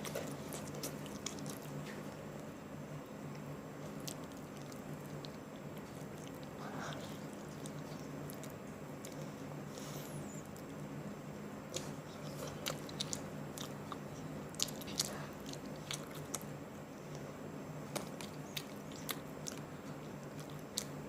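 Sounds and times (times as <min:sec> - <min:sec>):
person chewing: 0:00.0 - 0:02.2, 0:03.3 - 0:10.8, 0:11.7 - 0:16.5, 0:17.9 - 0:21.0
steady low hum: 0:00.0 - 0:21.0.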